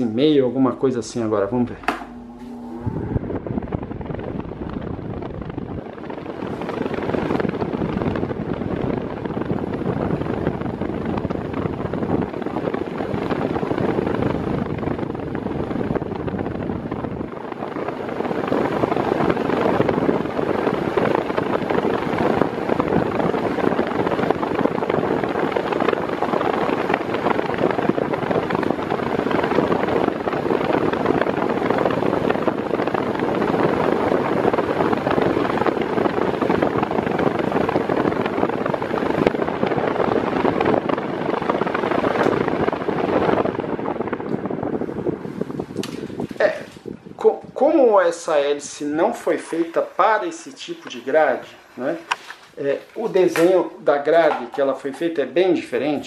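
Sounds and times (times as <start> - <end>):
floor fan rushing air: 0.0 - 56.0.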